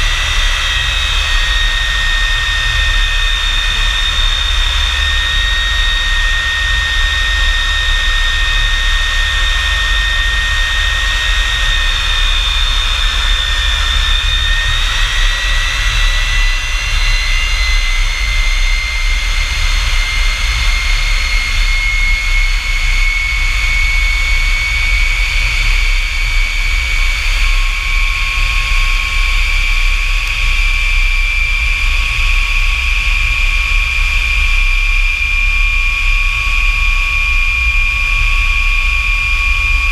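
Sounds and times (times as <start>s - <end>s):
high turbine whine: 0.0s - 39.9s
jet engine low rumble: 0.0s - 39.9s
lower turbine whine: 0.0s - 39.9s.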